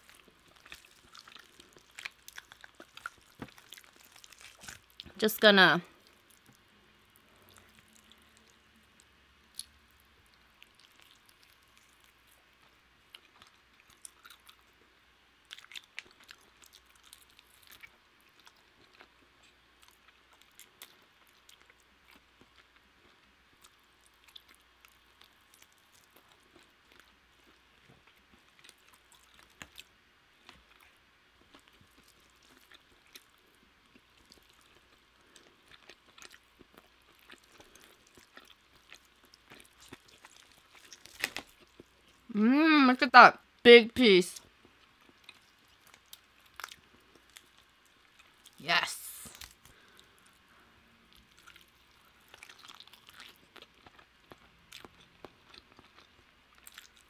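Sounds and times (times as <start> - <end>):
chewing food: 0.0 - 5.2, 5.8 - 42.3, 44.4 - 48.6, 49.2 - 57.0
soft wet clicks and crackles: 0.0 - 42.3, 44.4 - 50.4, 51.1 - 57.0.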